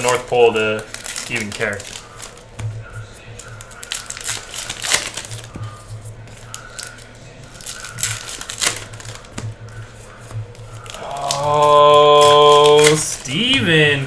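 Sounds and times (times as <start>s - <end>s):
card pack wrappers tearing and crinkling: 0.0s - 2.6s, 3.3s - 5.6s, 6.3s - 9.4s, 10.5s - 14.0s.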